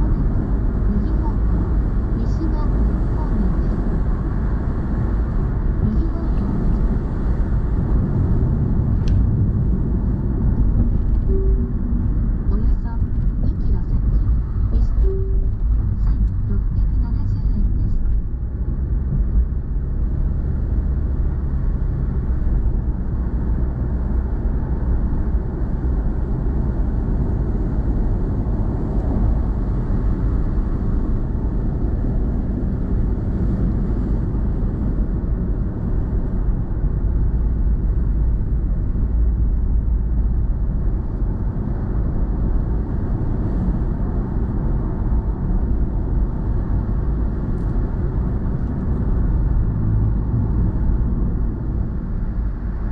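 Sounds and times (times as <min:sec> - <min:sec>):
car cabin road and engine rumble: 0:00.0 - 0:52.9.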